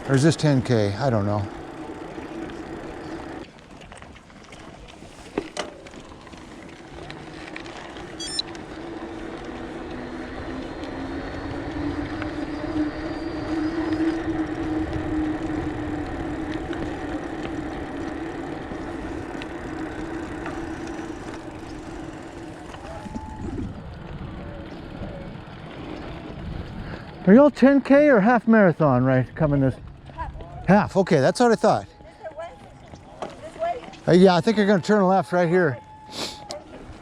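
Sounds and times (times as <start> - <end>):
motor droning: 0.0 - 27.4, 29.8 - 37.0.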